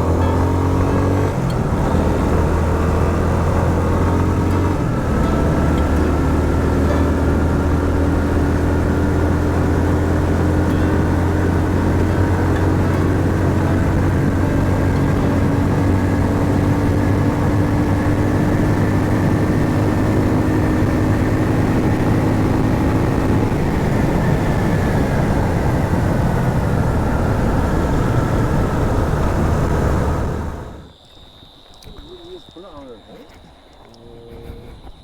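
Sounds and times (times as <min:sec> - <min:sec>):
motorcycle engine running: 0:00.0 - 0:30.9
wind noise: 0:00.0 - 0:31.0
road noise: 0:00.0 - 0:35.0.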